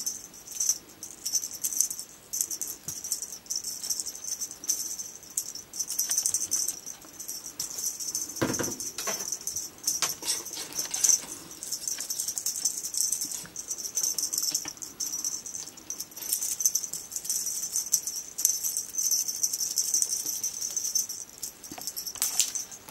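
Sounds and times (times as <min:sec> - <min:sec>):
cat toy jingling and rattling: 0:00.0 - 0:22.9.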